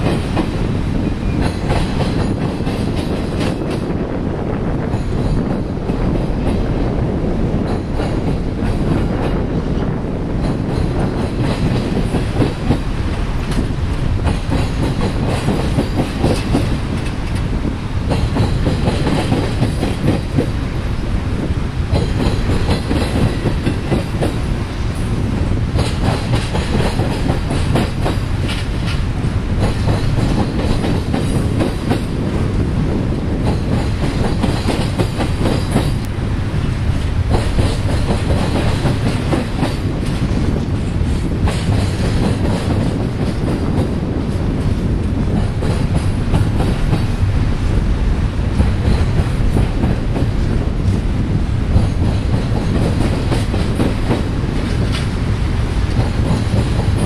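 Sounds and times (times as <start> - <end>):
wheels clacking over rail joints: 0.0 - 4.0, 7.5 - 21.1, 21.8 - 32.7, 33.3 - 47.3, 48.4 - 57.0
steel train wheels on rail: 0.0 - 57.0.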